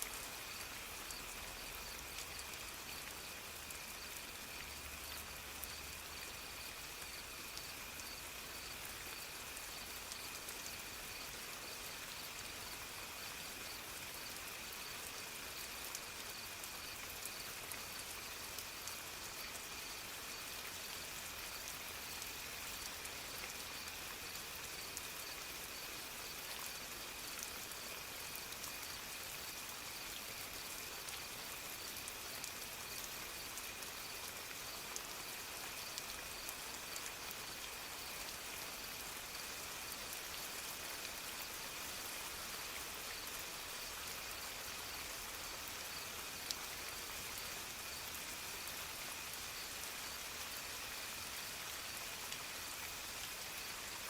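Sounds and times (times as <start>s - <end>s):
steady soft rain: 0.0s - 54.0s.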